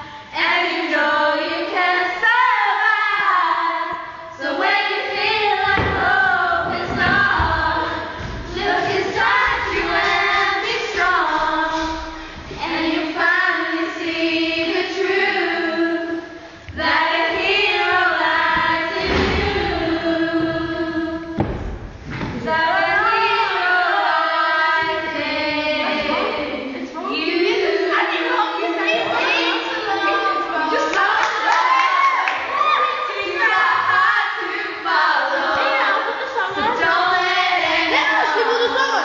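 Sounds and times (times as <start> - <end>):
girls singing together: 0.0 - 39.0.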